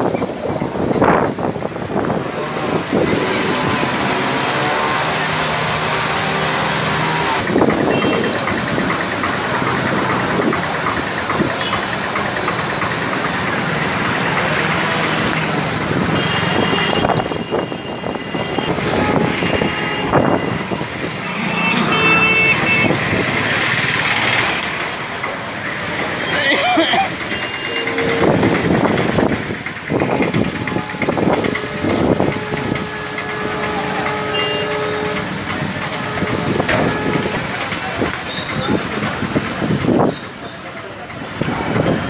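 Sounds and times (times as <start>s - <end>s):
loud rush of noise: 0.0s - 42.0s
vehicle engines running: 0.0s - 42.0s.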